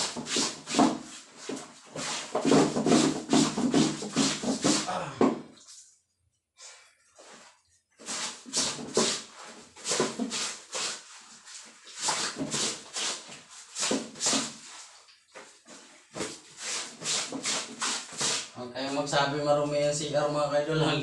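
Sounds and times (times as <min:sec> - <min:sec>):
wet laundry scrubbed by hand: 0:00.0 - 0:05.0, 0:07.2 - 0:19.1.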